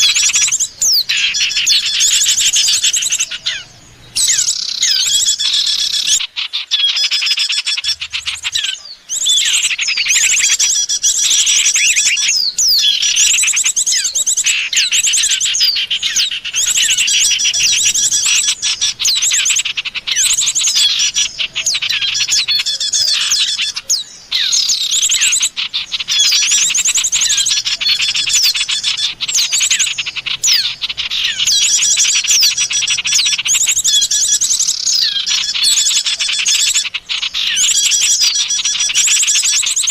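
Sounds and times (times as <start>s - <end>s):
songbirds chattering and trilling: 0.0s - 39.9s.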